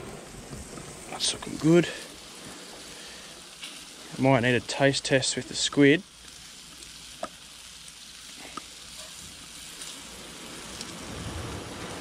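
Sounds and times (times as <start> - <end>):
squid sizzling in oil: 0.0 - 12.0.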